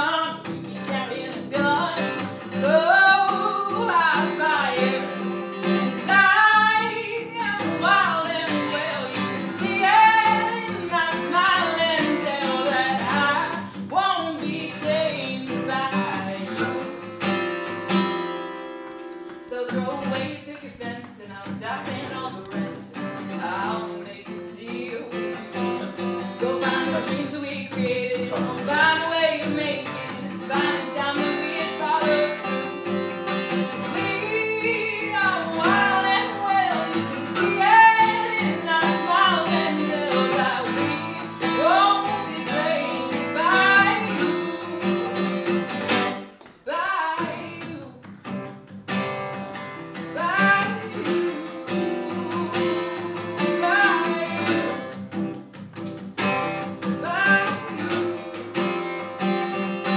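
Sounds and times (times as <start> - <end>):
woman singing: 0.0 - 17.2, 19.4 - 55.0, 56.4 - 59.9
acoustic guitar: 0.0 - 59.9.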